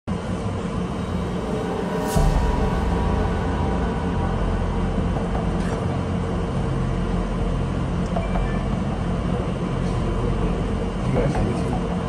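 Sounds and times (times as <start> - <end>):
steady low rumble: 0.1 - 12.0.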